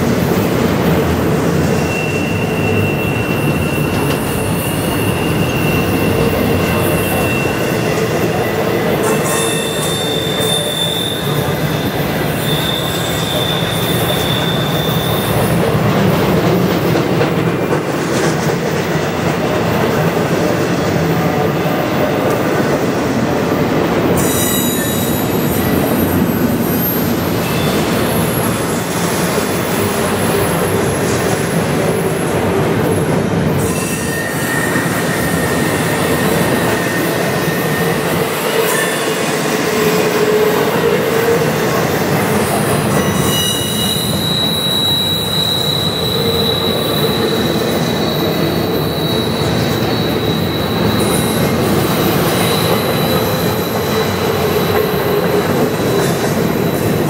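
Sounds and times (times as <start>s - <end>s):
train wheels rumbling on rail: 0.0s - 57.0s
high wheel squeal: 1.4s - 15.8s, 24.2s - 57.0s.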